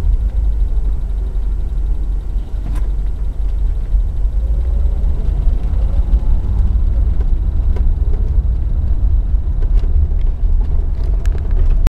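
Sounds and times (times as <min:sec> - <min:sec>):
car engine rumbling: 0:00.0 - 0:11.9
faint engine clicks: 0:00.0 - 0:11.9.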